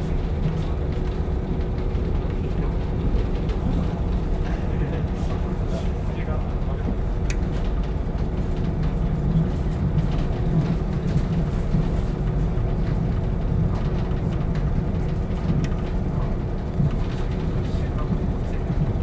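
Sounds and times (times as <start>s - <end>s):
train diesel engine idling: 0.0s - 19.0s.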